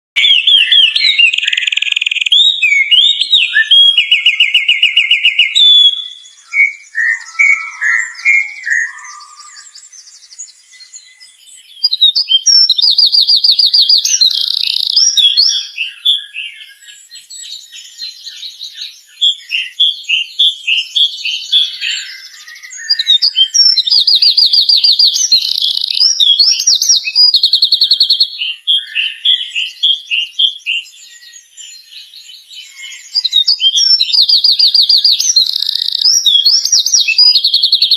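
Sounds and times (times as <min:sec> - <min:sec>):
songbird trilling: 0:00.2 - 0:37.9.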